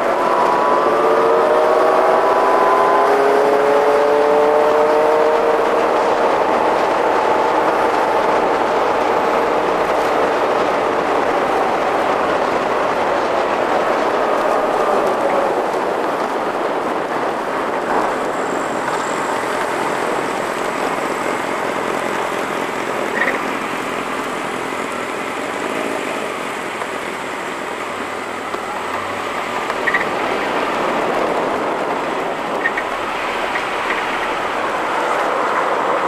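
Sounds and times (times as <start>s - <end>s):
car engine: 0.0s - 36.0s
wind and road noise: 0.0s - 36.0s.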